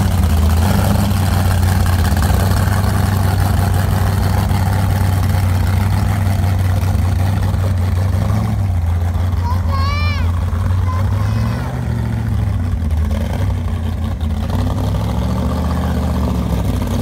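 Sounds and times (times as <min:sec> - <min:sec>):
boat engine idling loudly: 0:00.0 - 0:17.0.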